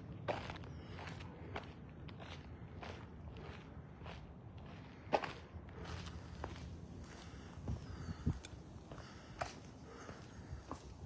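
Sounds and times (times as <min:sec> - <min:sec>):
footsteps on outdoor path: 0:00.0 - 0:11.0.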